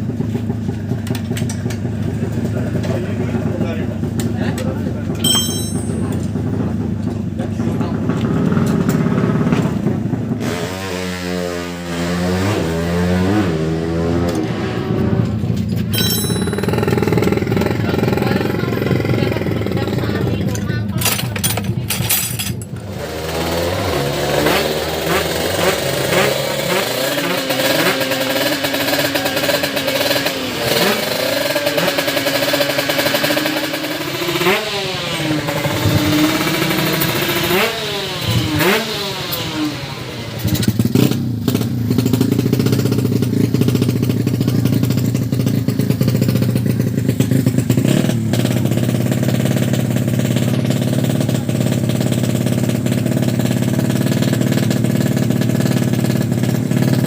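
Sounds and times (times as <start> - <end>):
engine running steadily: 0.0 - 11.3, 12.3 - 57.0
motorcycle engine revving: 0.0 - 57.0.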